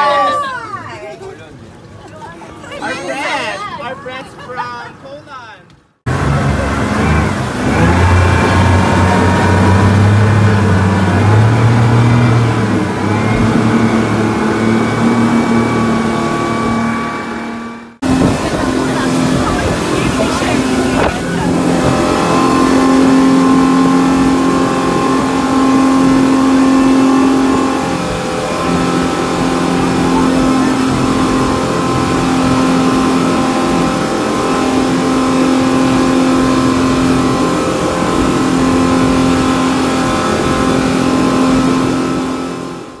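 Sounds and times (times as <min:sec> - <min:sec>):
outboard motors droning: 0:00.0 - 0:43.0
wind: 0:00.0 - 0:43.0
water rushing: 0:06.1 - 0:43.0.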